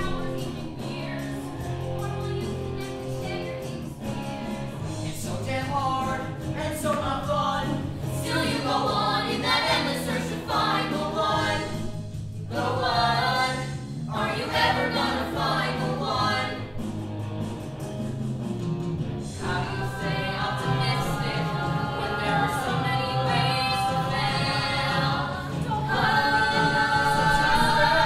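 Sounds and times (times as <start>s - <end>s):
group singing musical theatre: 0.0s - 17.1s, 19.0s - 28.0s
instrumental accompaniment: 0.0s - 28.0s.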